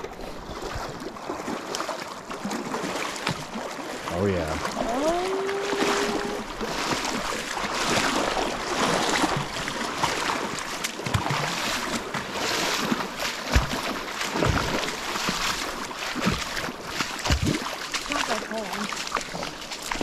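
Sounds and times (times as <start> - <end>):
footsteps splashing through water: 0.0 - 20.0.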